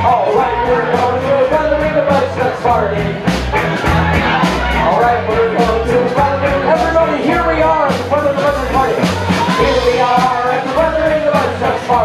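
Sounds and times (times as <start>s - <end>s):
drum kit cymbal beat: 0.0s - 12.0s
electric bass: 0.0s - 12.0s.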